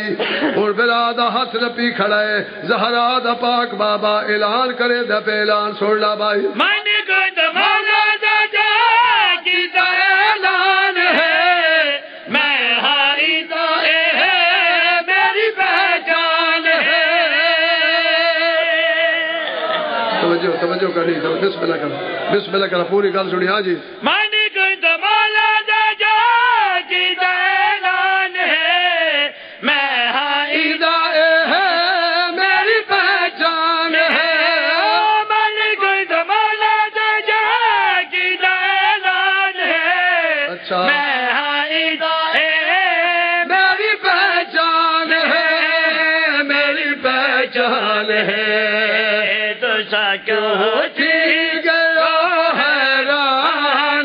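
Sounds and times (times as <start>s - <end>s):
man chanting melodic recitation: 0.0s - 19.4s, 22.6s - 54.0s.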